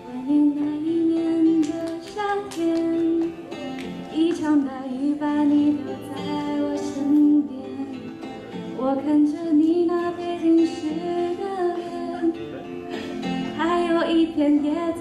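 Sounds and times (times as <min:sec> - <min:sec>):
instrumental accompaniment: 0:00.0 - 0:15.0
woman singing into microphone: 0:00.0 - 0:15.0.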